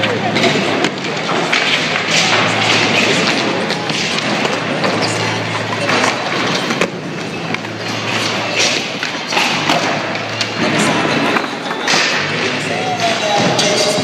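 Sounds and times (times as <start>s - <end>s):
skateboards clacking: 0.0s - 14.0s
skateboards rolling on concrete: 0.0s - 14.0s.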